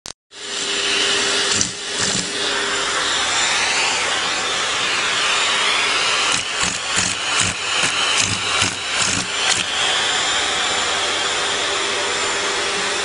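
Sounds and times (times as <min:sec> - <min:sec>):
vacuum cleaner running: 0:00.4 - 0:13.0.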